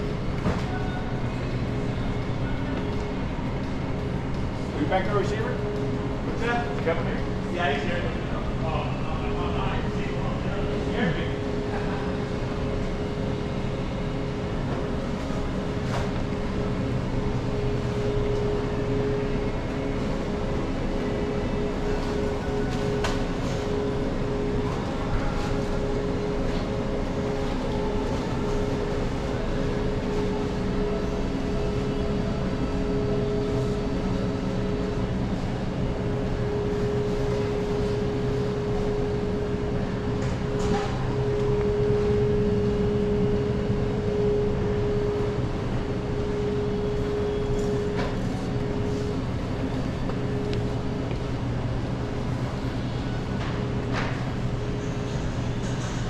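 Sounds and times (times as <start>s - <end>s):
mechanical hum with tone: 0.0s - 56.0s.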